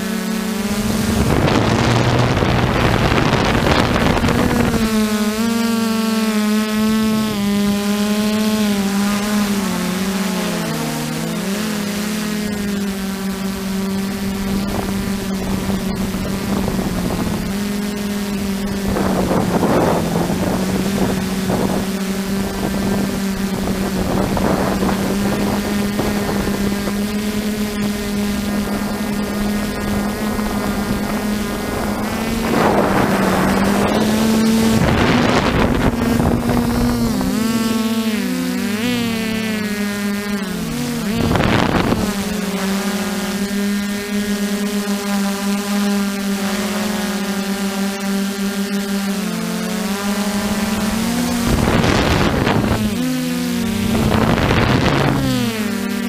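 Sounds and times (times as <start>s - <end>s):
wind noise on microphone: 0.0s - 10.2s, 12.2s - 44.6s, 49.8s - 56.0s
drone propellers buzzing: 0.0s - 56.0s.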